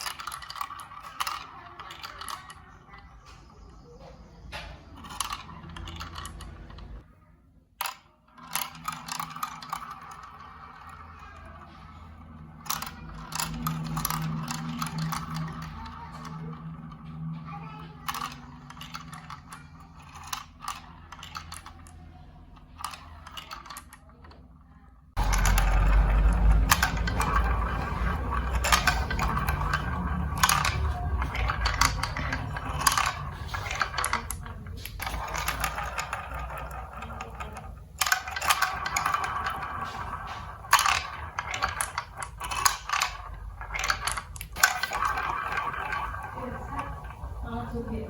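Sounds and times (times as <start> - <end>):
marbles clicking on track: 0.0 - 7.0, 7.6 - 48.0
marbles rolling through marble run: 0.0 - 48.0.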